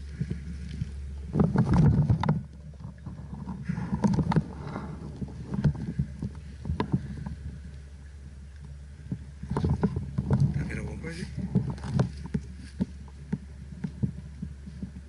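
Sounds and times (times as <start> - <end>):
handling knocks and rustles: 0.0 - 7.7, 8.6 - 15.0
steady low rumble: 0.0 - 15.0.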